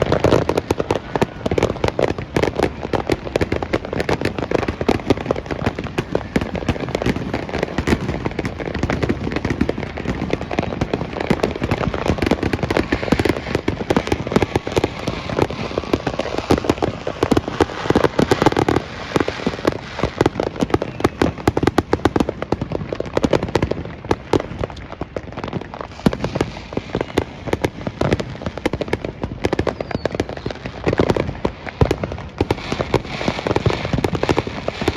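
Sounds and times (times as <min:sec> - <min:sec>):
fireworks crackling and banging: 0:00.0 - 0:34.9.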